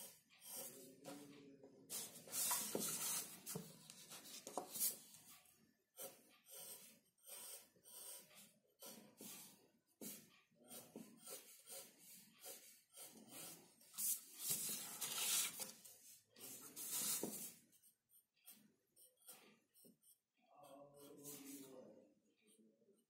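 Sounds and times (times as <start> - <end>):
pencil scratching on paper: 0.0 - 21.8.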